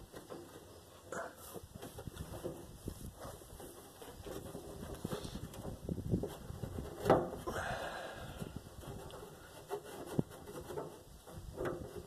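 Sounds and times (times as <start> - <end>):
hose rubbing and rustling: 0.0 - 12.0.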